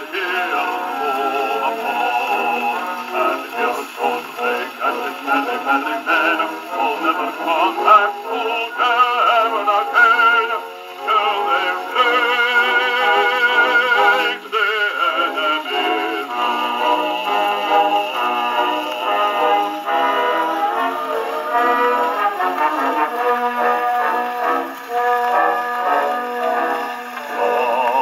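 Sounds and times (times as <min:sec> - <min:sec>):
man singing with orchestra: 0:00.0 - 0:28.0.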